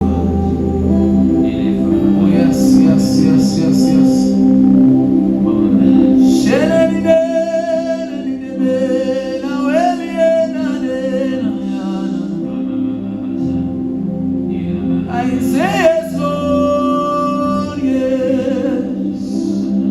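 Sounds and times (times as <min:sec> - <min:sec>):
keyboard pad chords: 0:00.0 - 0:19.9.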